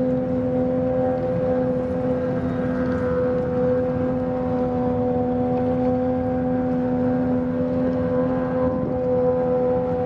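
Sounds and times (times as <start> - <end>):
ship engines droning: 0.0 - 10.0.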